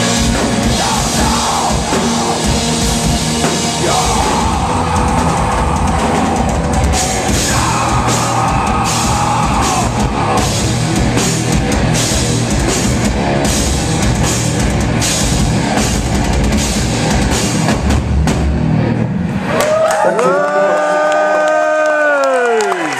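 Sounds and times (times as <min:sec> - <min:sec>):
live rock band playing: 0:00.0 - 0:19.5.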